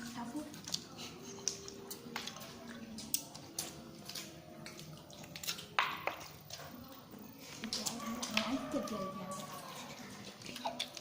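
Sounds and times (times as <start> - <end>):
wet eating smacks: 0.6 - 11.0.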